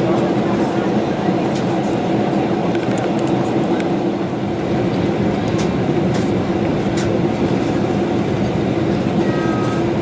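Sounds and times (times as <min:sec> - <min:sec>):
airplane cabin engine drone: 0:00.0 - 0:10.0.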